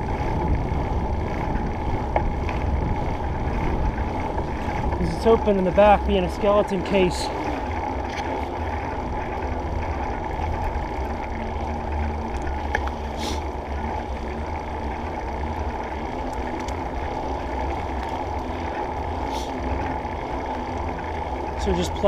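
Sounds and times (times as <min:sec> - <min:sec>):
wind rumble on microphone: 0:00.0 - 0:18.6.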